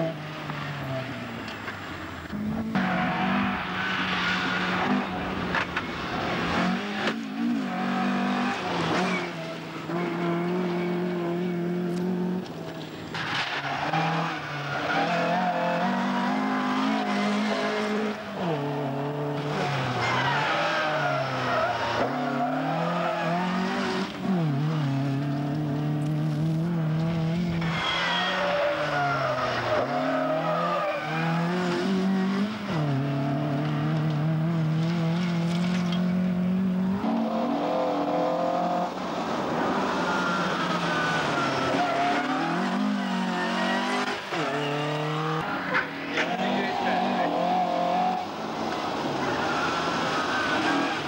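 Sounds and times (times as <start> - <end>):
rally car engine revving: 2.2 - 51.0.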